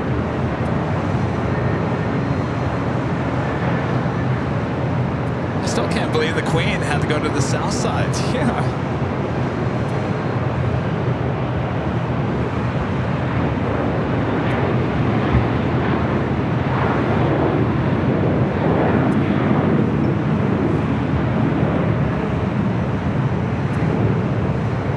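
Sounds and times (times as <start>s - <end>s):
jet engine roar: 0.0s - 24.9s.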